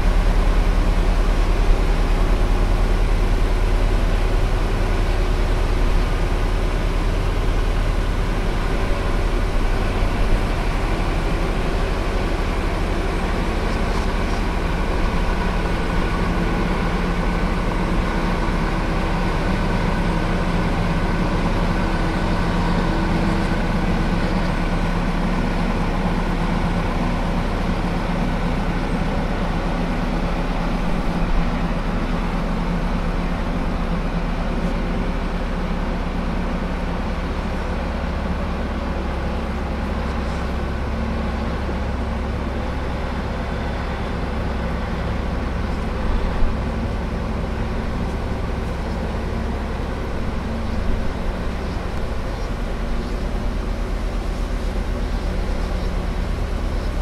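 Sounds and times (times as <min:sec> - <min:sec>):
heavy machinery engine droning: 0:00.0 - 0:57.0.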